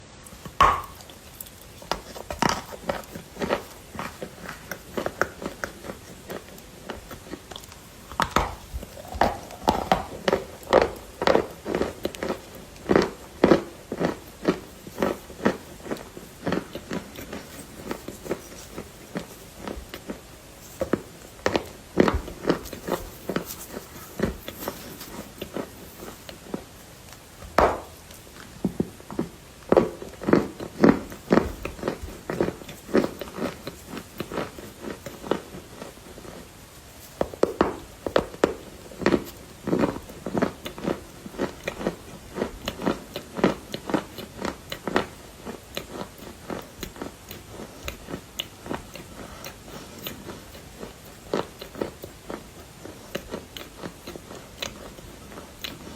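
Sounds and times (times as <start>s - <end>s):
crunching and chewing: 0.2s - 55.9s.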